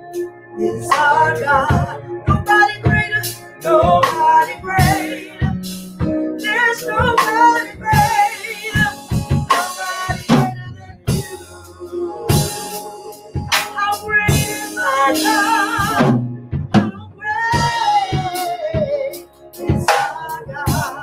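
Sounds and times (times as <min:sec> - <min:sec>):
drum kit beat: 0:00.0 - 0:21.0
electronic keyboard chords: 0:00.0 - 0:21.0
woman singing: 0:00.6 - 0:05.6, 0:06.4 - 0:12.8, 0:13.5 - 0:16.2, 0:16.8 - 0:21.0.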